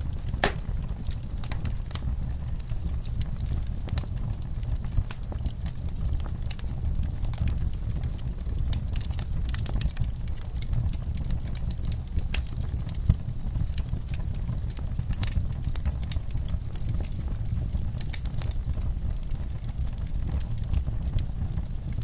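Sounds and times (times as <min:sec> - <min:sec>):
rumble of flames: 0:00.0 - 0:22.0
wood fire crackling and popping: 0:00.0 - 0:22.0.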